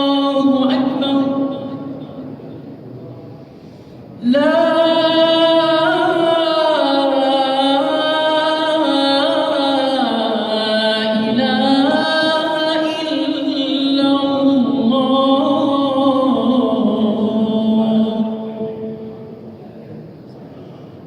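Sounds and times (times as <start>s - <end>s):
man chanting: 0.0s - 2.0s, 4.2s - 19.4s.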